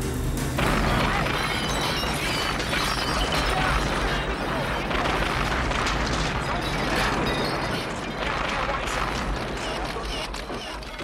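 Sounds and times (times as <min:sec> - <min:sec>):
debris crackling and clattering: 0:00.6 - 0:11.0
low rumbling explosion: 0:00.6 - 0:11.0.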